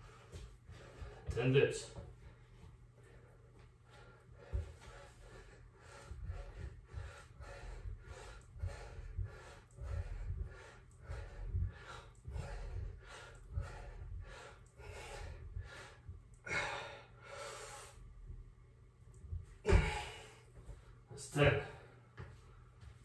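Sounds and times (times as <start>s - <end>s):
man breathing hard: 0.0s - 1.4s, 2.0s - 18.4s, 19.6s - 20.9s.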